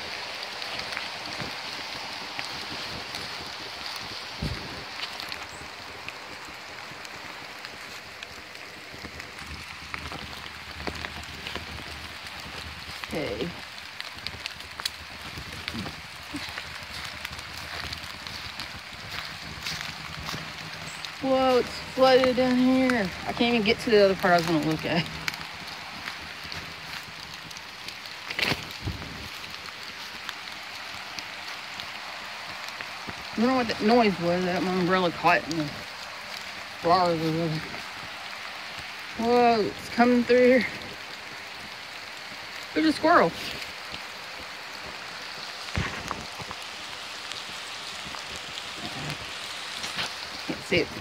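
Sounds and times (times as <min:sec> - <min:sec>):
creek rushing: 0:00.0 - 0:51.0
footsteps on wet leaves: 0:00.0 - 0:51.0
raindrops ticking on umbrella: 0:00.0 - 0:51.0
steady rain in woodland: 0:00.0 - 0:51.0.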